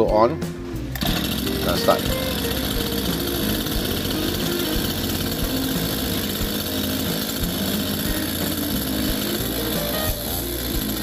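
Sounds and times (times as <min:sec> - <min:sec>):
chainsaw idling: 0:00.9 - 0:11.0.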